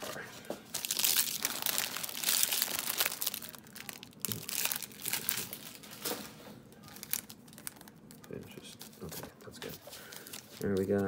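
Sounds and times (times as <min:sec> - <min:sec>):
foil wrappers crinkling: 0:00.7 - 0:11.0.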